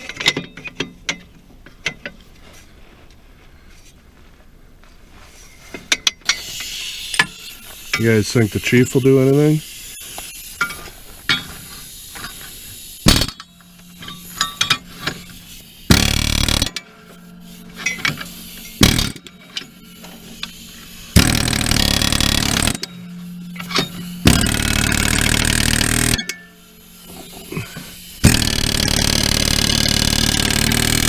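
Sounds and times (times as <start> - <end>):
impact wrench hammering: 5.9 - 31.0.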